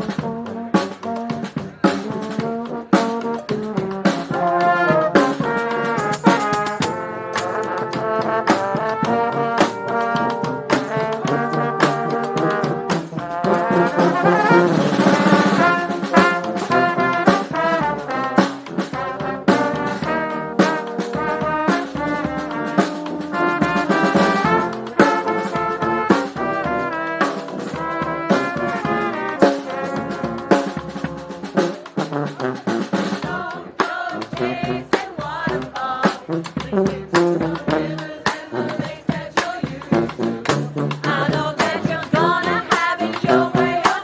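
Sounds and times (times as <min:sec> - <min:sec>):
drum beat: 0:00.0 - 0:44.0
trombones and trumpets: 0:00.0 - 0:44.0.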